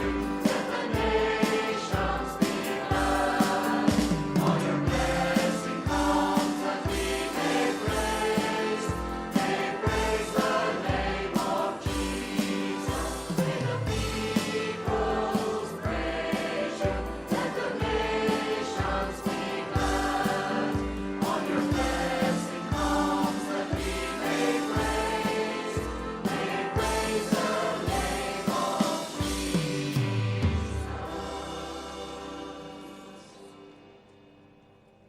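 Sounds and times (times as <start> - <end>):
group singing a hymn: 0.0 - 33.7
praise band playing: 0.0 - 33.8.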